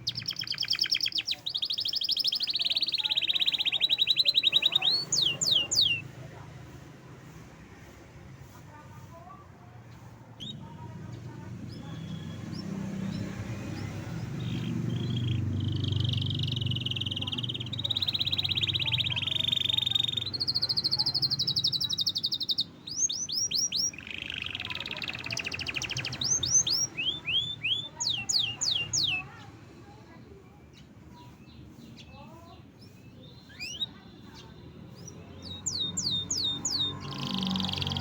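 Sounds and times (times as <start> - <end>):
canary singing trills: 0.0 - 6.5, 9.9 - 38.0.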